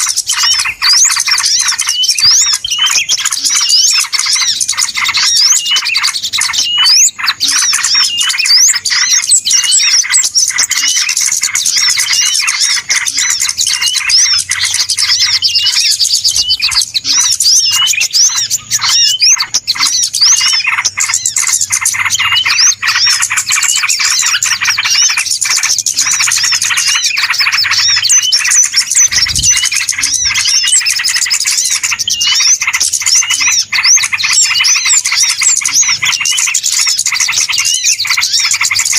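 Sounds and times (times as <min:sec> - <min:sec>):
small birds chirping in chorus: 0:00.0 - 0:38.9.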